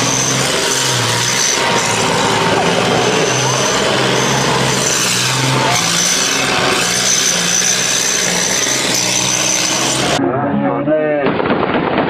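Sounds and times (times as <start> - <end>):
thin high whine: 0.0 - 10.2
tracked vehicle engine drone: 0.0 - 10.3
track noise: 0.0 - 10.5.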